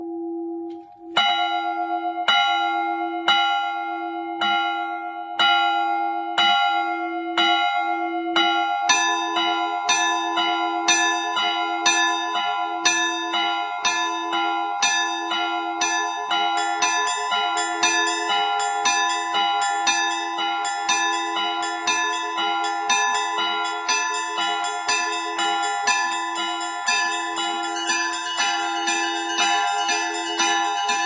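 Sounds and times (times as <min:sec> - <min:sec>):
church bells ringing: 0:01.0 - 0:31.0.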